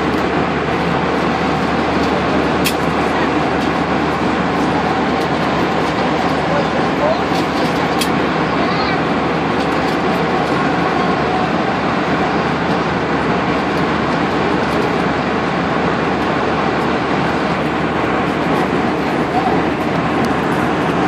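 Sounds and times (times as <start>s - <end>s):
airplane cabin noise: 0.0s - 21.0s.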